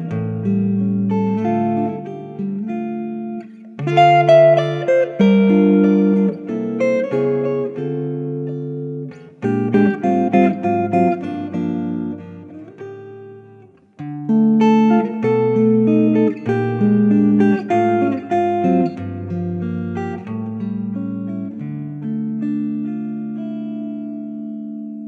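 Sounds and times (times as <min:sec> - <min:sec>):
solo acoustic guitar: 0:00.0 - 0:25.0.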